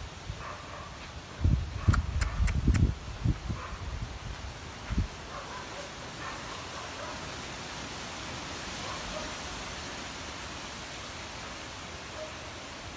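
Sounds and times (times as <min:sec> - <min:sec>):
outdoor background hiss: 0:00.0 - 0:12.9.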